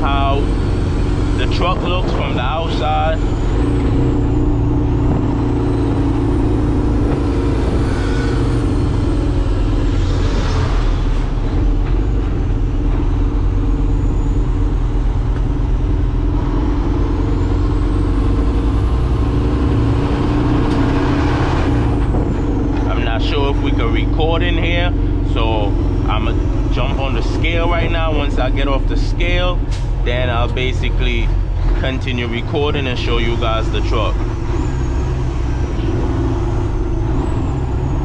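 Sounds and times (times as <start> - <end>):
diesel truck engine running: 0.0 - 38.0
road noise: 0.0 - 38.0.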